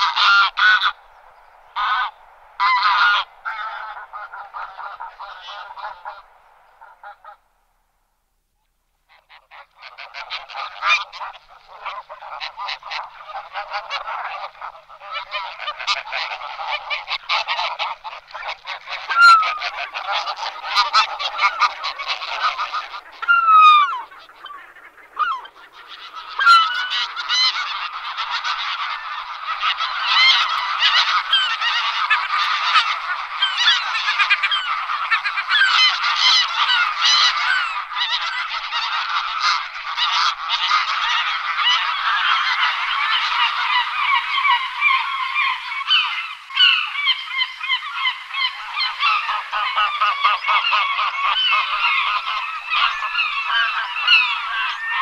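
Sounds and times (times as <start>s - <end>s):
flock of geese honking: 0.0s - 7.6s, 9.1s - 55.0s.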